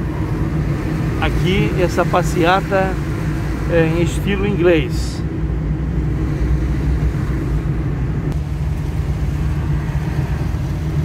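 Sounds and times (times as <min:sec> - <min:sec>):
car driving on wet road: 0:00.0 - 0:11.0.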